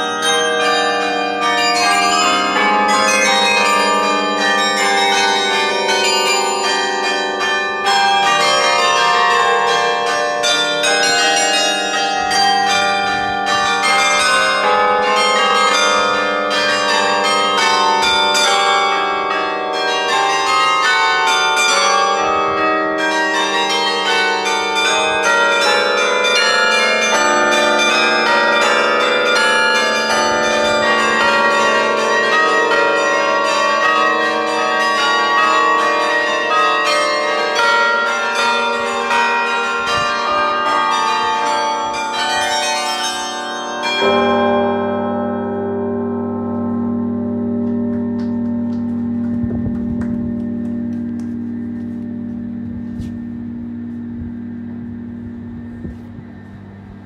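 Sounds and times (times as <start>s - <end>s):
carillon bells playing a melody: 0.0s - 57.0s.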